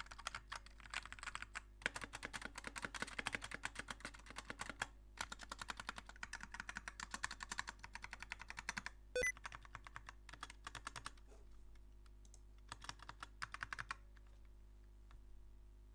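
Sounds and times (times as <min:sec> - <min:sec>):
typing on mechanical keyboard: 0:00.0 - 0:11.2, 0:12.1 - 0:14.5.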